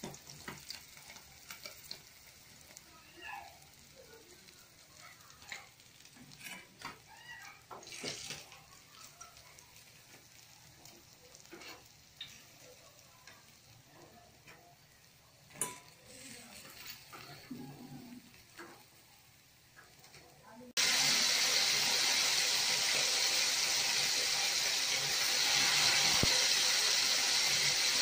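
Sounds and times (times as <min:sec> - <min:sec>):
fish frying in hot oil: 0:00.0 - 0:28.0.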